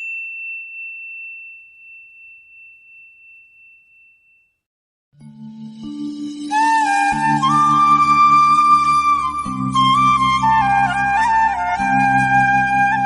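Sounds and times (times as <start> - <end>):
bell high pure tone: 0.0 - 10.5.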